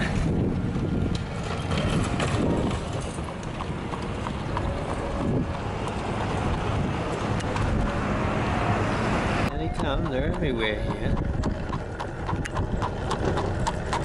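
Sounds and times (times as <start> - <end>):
horse hooves on paved road: 0.0 - 8.4, 9.5 - 14.0.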